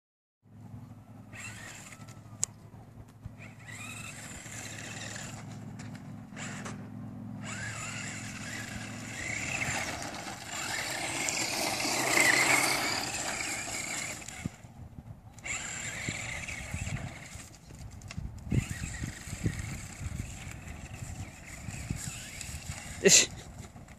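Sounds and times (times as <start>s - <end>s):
rc truck motor whining: 1.0s - 2.6s, 3.2s - 23.9s.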